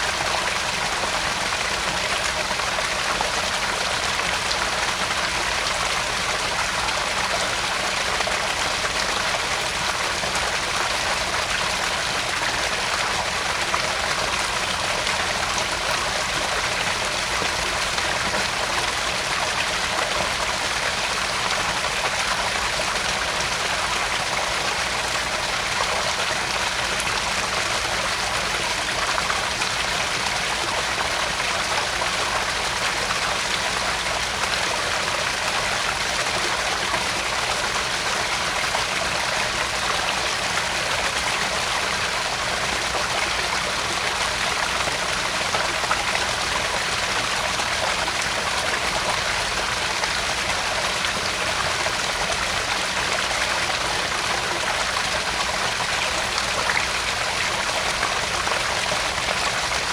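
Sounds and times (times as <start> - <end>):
small waterfall splashing: 0.0 - 59.9.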